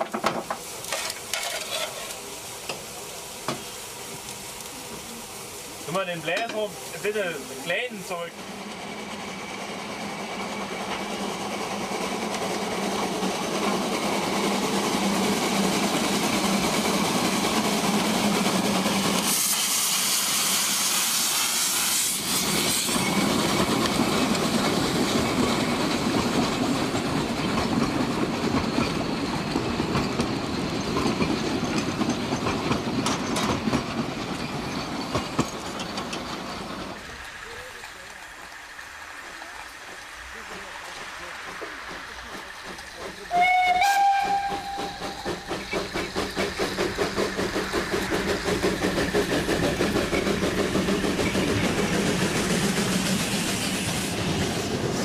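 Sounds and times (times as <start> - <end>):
train wheels clicking over rail joints: 0.0 - 4.7, 8.4 - 55.0
loud rush of steam: 0.0 - 55.0
steam locomotive hissing: 0.0 - 55.0.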